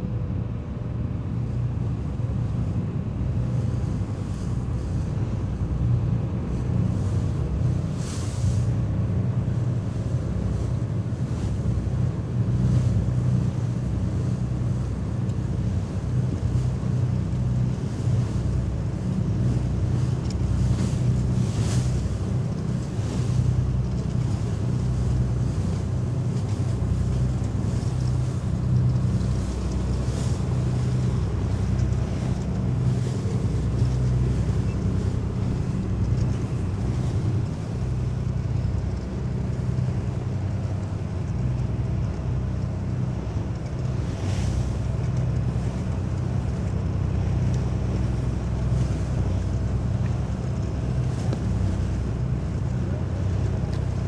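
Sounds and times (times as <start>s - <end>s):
boat engine droning: 0.0s - 54.0s
wind: 0.0s - 54.0s
water rushing past hull: 0.1s - 54.0s.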